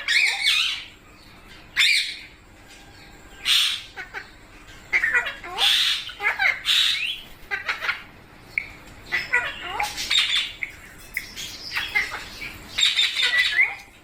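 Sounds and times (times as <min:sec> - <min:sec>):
parrots squawking: 0:00.0 - 0:02.3, 0:03.3 - 0:14.0.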